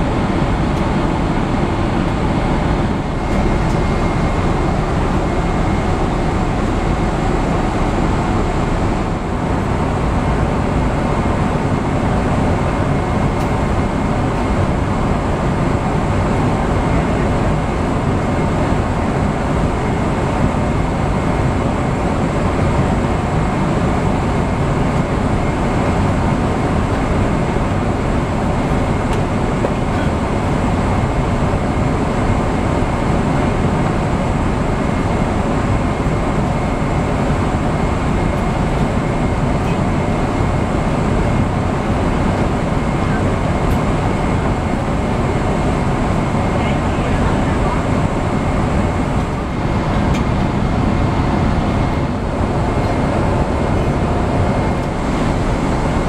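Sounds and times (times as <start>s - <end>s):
airplane cabin air and engine rush: 0.0s - 56.0s.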